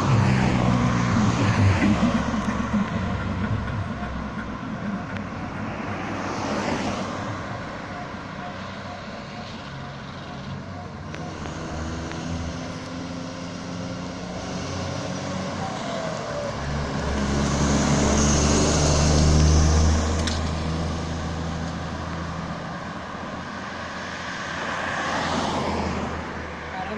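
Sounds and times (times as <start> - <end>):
truck diesel engine passing: 0.0 - 26.9.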